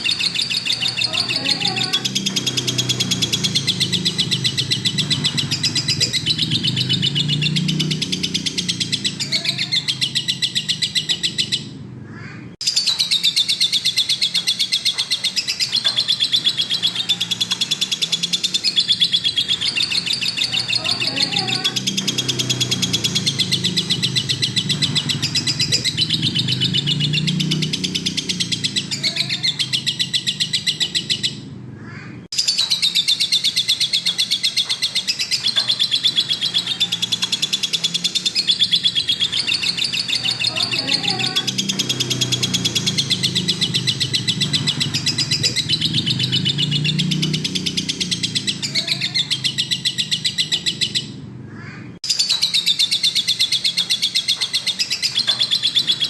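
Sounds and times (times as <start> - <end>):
lovebird chattering trill: 0.0 - 11.7, 12.6 - 31.4, 32.4 - 56.0.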